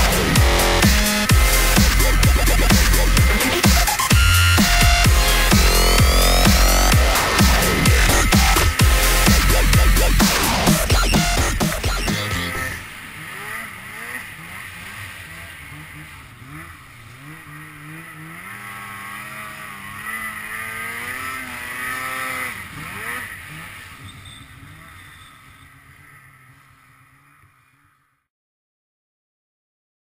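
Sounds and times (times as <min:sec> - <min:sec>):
snowmobile engine revving: 0:00.0 - 0:28.3.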